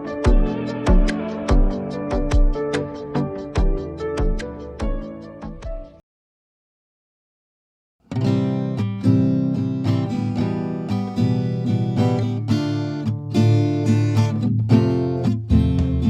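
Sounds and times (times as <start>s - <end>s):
strummed acoustic guitar: 0.0s - 5.1s, 8.1s - 16.0s.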